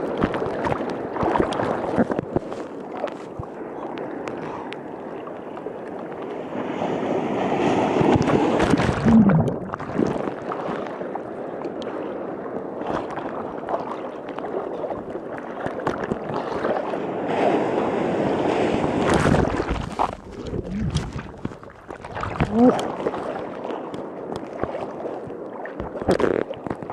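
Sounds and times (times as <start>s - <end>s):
ocean surf rushing and gurgling: 0.0s - 26.9s.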